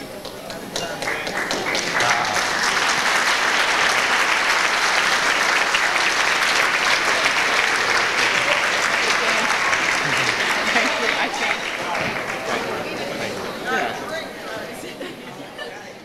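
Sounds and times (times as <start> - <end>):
room of people applauding: 0.7 - 13.6.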